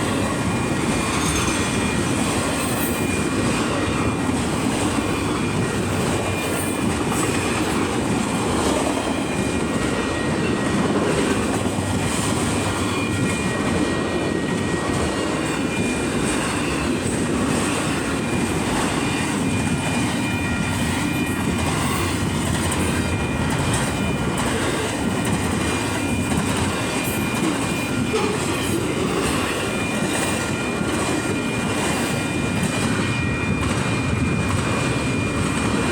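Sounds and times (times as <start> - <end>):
train wheels rolling on rails: 0.0 - 35.9.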